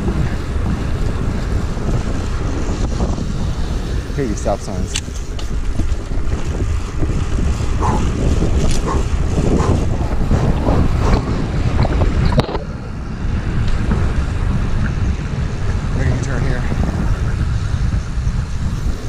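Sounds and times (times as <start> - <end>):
road rumble: 0.0 - 19.0
wind buffeting microphone: 0.0 - 19.0.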